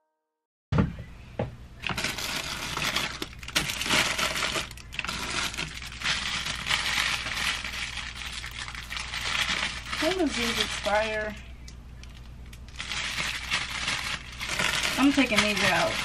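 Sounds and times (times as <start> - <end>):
plastic wrappers crinkling: 1.8 - 16.0.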